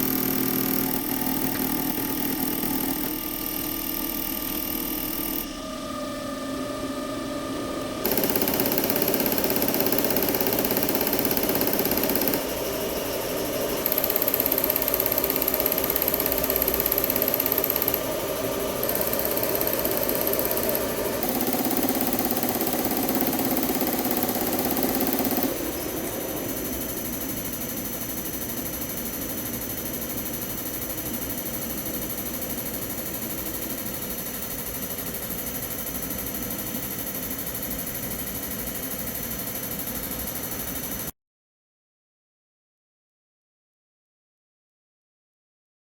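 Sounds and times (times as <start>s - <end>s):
injector test bench pulsing drone: 0.0s - 41.1s.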